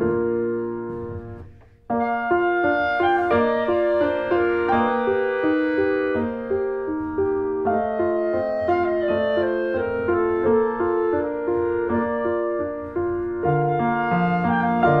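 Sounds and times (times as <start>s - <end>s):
keyboard melody: 0.0s - 15.0s.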